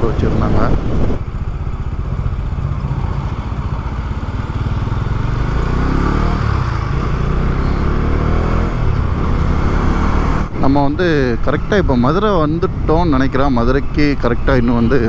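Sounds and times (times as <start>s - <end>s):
motorcycle engine running: 0.0s - 14.7s.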